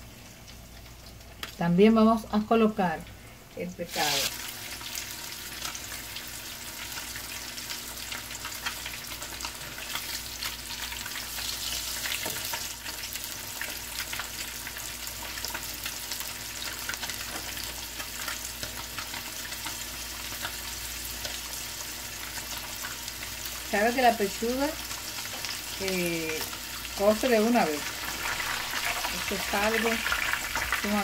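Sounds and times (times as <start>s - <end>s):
frying sizzle with crackling pops: 0.0s - 31.0s.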